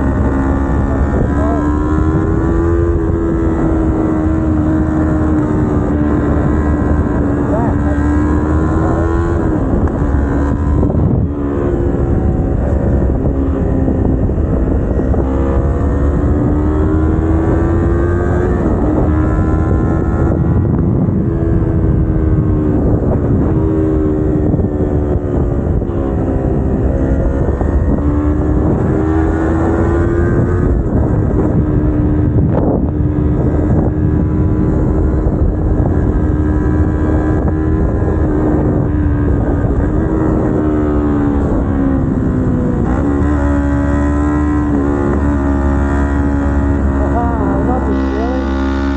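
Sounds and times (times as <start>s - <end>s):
motorcycle engine accelerating: 0.0s - 48.9s
wind on microphone: 0.0s - 48.9s.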